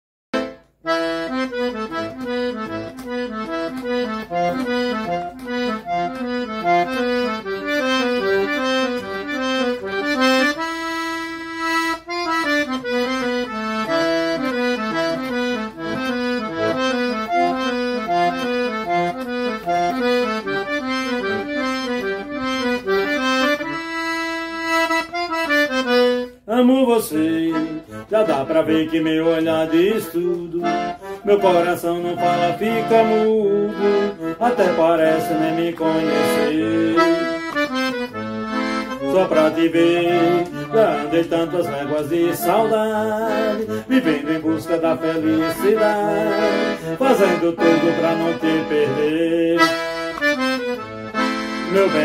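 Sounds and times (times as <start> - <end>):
accordion melody: 0.3 - 52.0.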